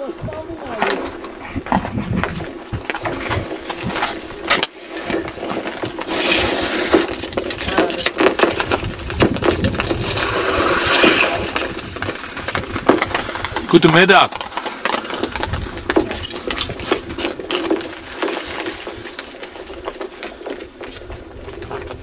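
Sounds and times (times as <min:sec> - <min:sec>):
lake ice cracking: 0:00.0 - 0:22.0.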